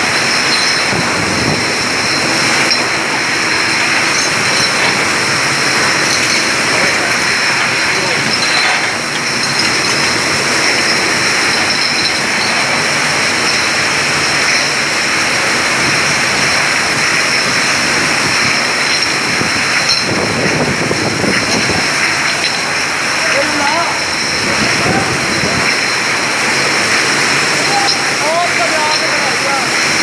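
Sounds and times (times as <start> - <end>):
constant high whines: 0.0 - 30.0
loud machine din: 0.0 - 30.0.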